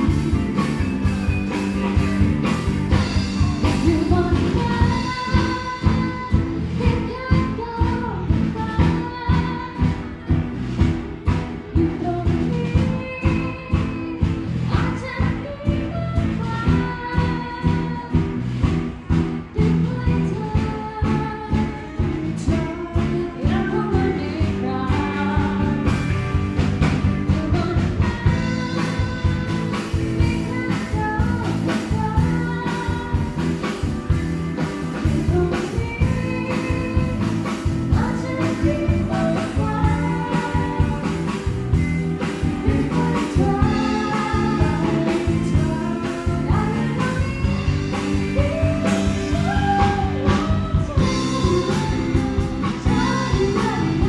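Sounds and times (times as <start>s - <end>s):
bass guitar: 0.0s - 54.0s
drums keeping a steady beat: 0.0s - 54.0s
electric and acoustic guitars: 0.0s - 54.0s
woman singing lead: 0.0s - 54.0s.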